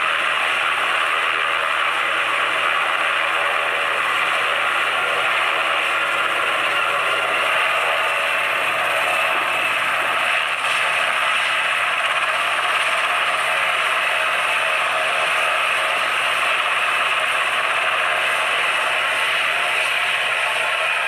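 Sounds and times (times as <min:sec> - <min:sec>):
helicopter engines and rotor: 0:00.0 - 0:21.0.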